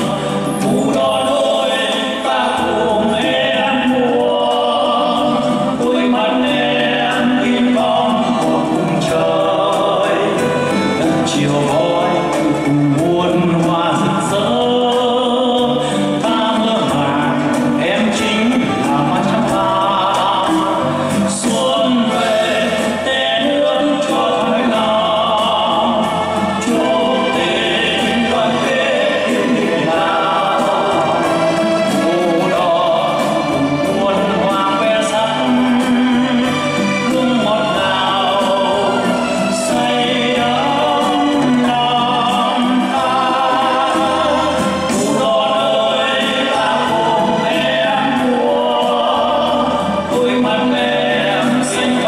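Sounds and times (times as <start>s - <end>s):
amplified backing music: 0.0s - 52.0s
instrumental accompaniment: 0.0s - 52.0s
man singing into a microphone: 0.0s - 52.0s.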